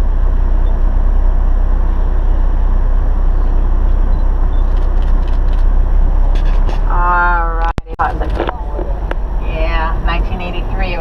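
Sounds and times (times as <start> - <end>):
bus engine drone: 0.0 - 11.0
road noise: 0.0 - 11.0.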